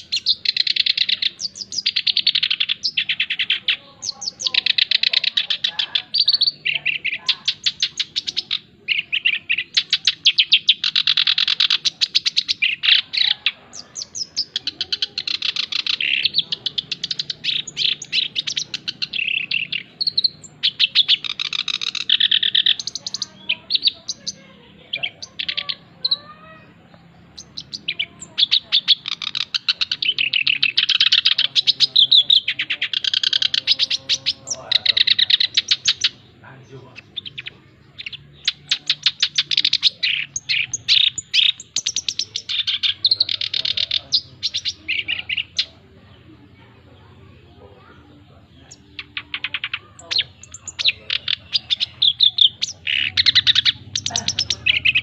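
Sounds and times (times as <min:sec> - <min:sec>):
reed warbler singing: 0:00.0 - 0:55.0.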